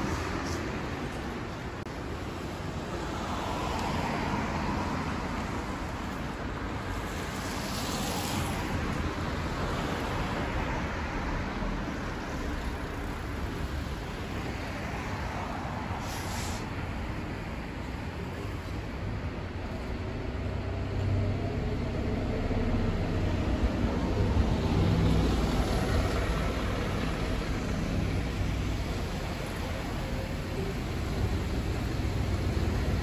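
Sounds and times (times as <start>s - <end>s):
cars passing on street: 0.0s - 33.0s.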